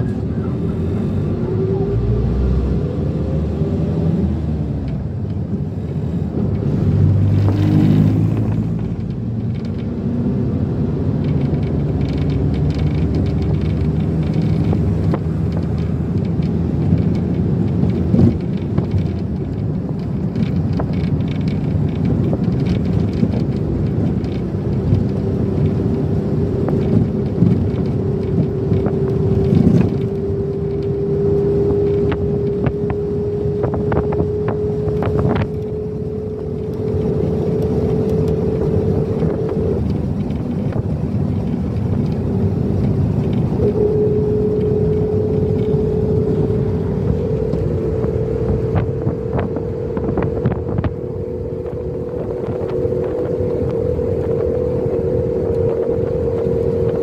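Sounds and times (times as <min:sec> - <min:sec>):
vehicle running rumble: 0:00.0 - 0:57.0.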